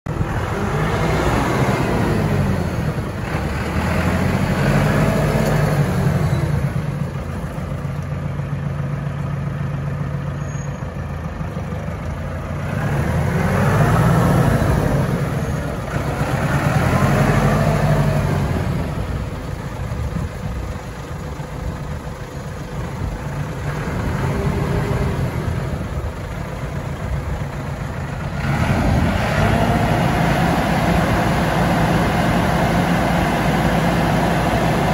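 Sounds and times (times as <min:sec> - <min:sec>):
tractor diesel engine revving: 0:00.1 - 0:34.9.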